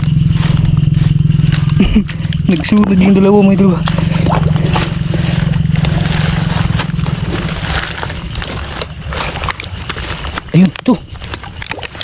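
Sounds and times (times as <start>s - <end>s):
low pulsing hum: 0.0s - 12.0s
hand digging in leaves and mud: 0.1s - 12.0s.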